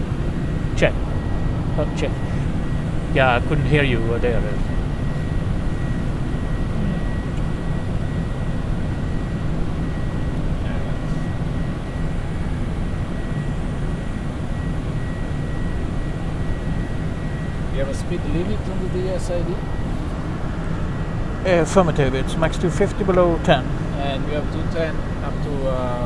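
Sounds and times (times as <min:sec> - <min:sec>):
airflow and jet engine noise: 0:00.0 - 0:26.0.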